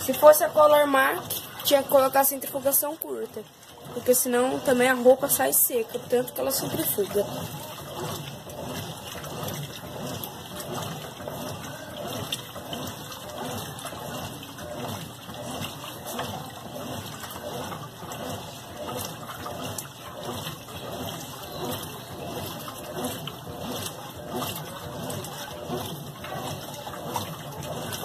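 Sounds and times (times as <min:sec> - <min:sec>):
washing machine water sloshing: 0:00.0 - 0:28.0.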